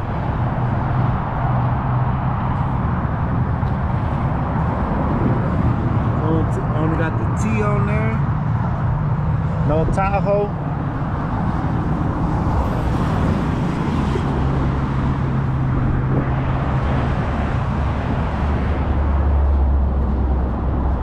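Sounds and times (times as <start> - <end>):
road traffic rushing: 0.0 - 21.0.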